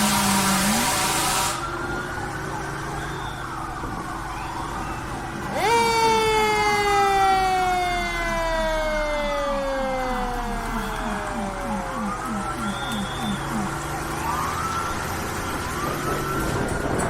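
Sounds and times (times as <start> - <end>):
fire truck siren: 0.0 - 17.0
truck rumbling on road: 0.0 - 17.0.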